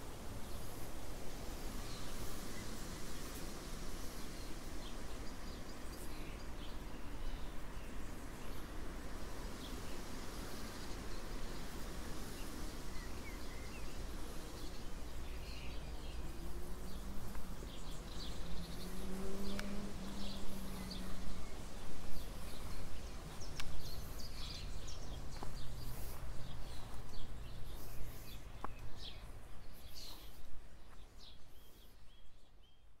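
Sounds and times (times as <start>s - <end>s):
birds chirping: 1.6s - 33.0s.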